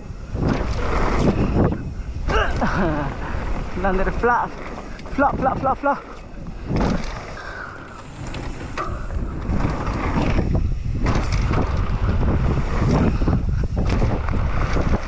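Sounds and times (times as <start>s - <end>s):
mountain bike rattling on dirt trail: 0.0s - 15.0s
wind on microphone: 0.0s - 15.0s.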